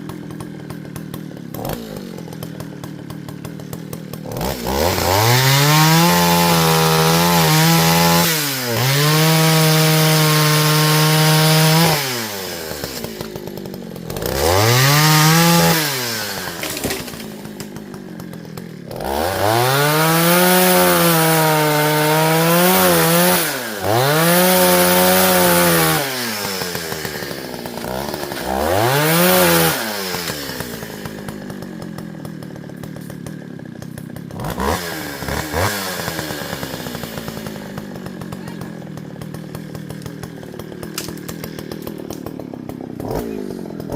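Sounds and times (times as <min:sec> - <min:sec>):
chainsaw engine revving: 0:00.0 - 0:43.9.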